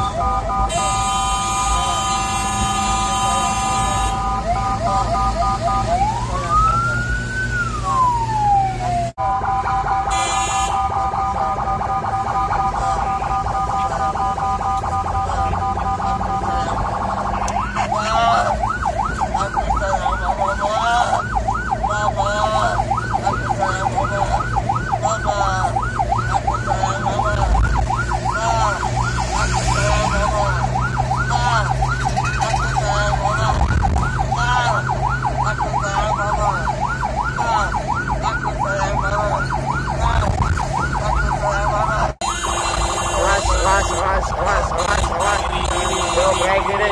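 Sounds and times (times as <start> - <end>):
ambulance siren yelping: 0.0 - 46.9.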